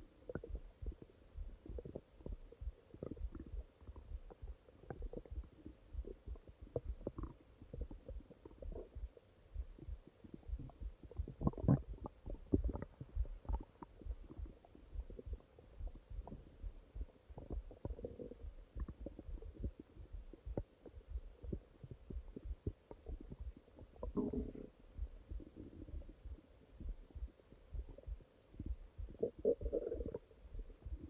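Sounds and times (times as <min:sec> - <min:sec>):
stomach growling: 0:00.0 - 0:31.0.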